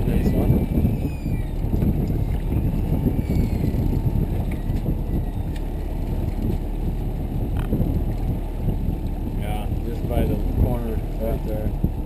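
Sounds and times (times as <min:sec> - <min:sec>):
boat motor: 0:00.0 - 0:12.0
wind rumble: 0:00.0 - 0:12.0.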